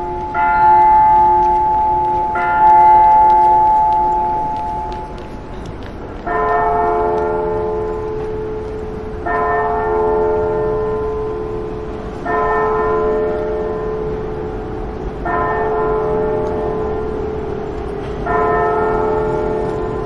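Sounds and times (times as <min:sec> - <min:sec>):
church bell tolling: 0:00.0 - 0:20.0.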